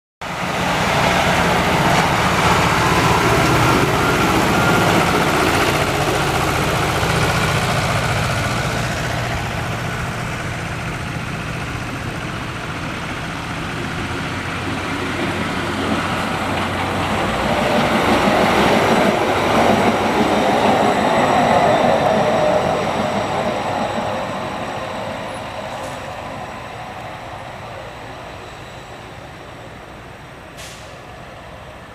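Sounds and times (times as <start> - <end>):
truck engines: 0.2 - 31.9
steel wheels running on rails: 0.3 - 30.8.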